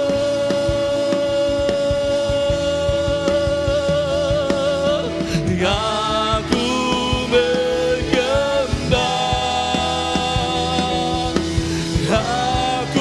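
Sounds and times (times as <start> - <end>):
drum kit: 0.0 - 13.0
keyboards: 0.0 - 13.0
person singing: 0.0 - 13.0.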